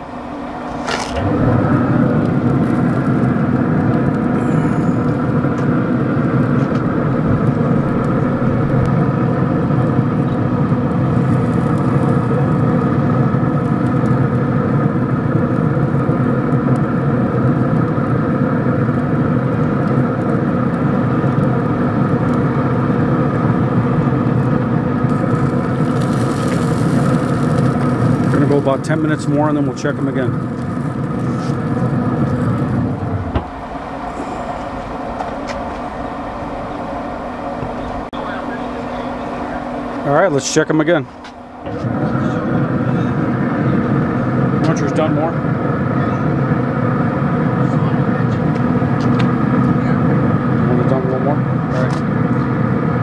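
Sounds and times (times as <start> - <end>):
machine droning: 0.0 - 53.0.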